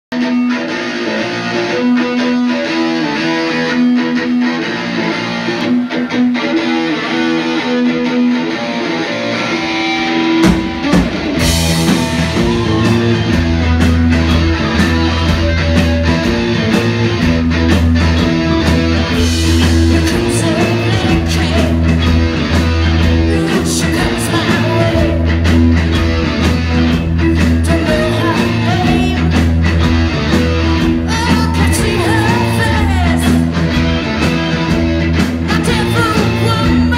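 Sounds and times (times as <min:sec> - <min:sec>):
bass guitar: 0:00.1 - 0:36.9
drums: 0:00.1 - 0:36.9
electric guitar: 0:00.1 - 0:36.9.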